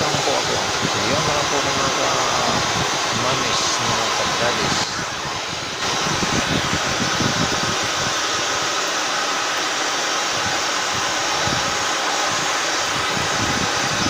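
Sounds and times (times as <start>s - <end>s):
pet hair dryer blowing: 0.0s - 14.0s.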